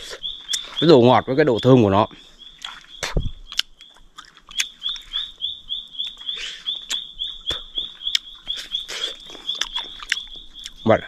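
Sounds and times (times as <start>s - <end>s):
person chewing honeycomb: 0.0s - 0.9s, 2.5s - 10.9s
high-pitched animal chirp: 0.0s - 11.0s.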